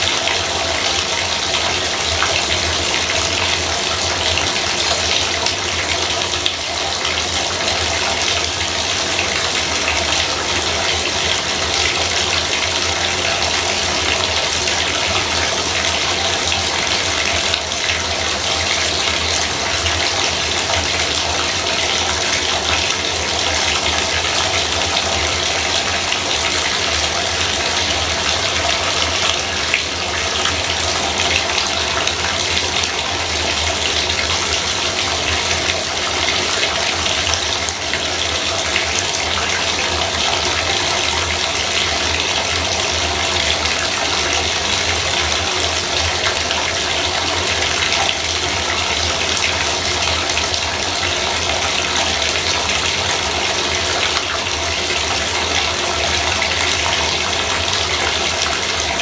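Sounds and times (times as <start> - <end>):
faucet water splashing into tub: 0.0 - 59.0.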